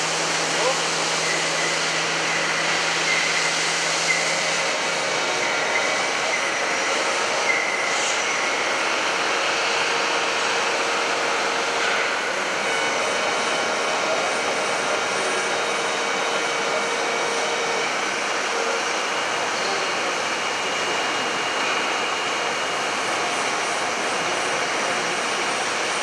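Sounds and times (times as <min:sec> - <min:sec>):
milling machine running: 0:00.0 - 0:26.0.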